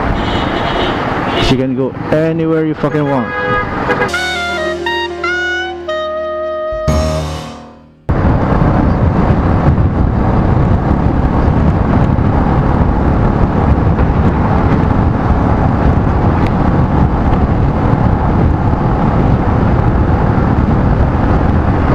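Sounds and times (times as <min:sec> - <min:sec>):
wind and road noise: 0:00.0 - 0:04.2, 0:08.1 - 0:21.9.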